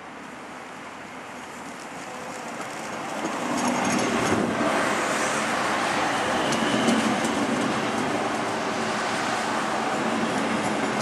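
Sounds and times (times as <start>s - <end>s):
train wheels rumbling on rail: 0.1s - 11.0s.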